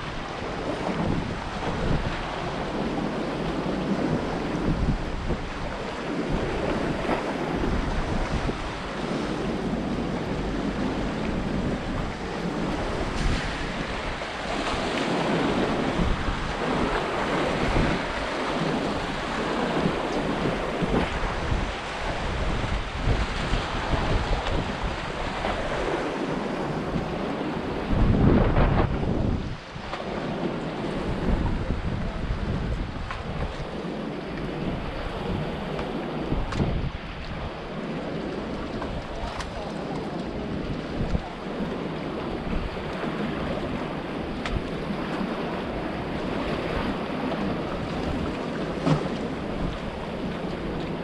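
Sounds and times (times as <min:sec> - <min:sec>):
sea waves splashing on concrete: 0:00.0 - 0:51.0
wind buffeting microphone: 0:00.0 - 0:51.0.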